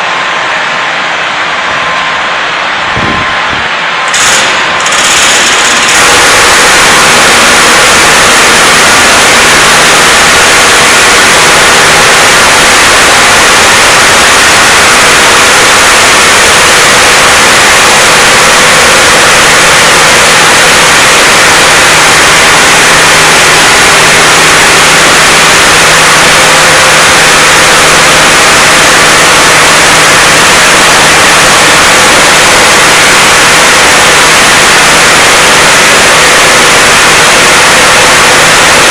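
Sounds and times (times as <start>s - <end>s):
floor milling machine running: 0.0s - 38.9s.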